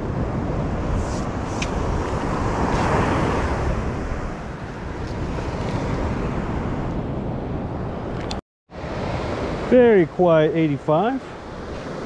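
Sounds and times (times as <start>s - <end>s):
surf washing ashore: 0.0s - 12.0s
wind buffeting microphone: 0.0s - 12.0s.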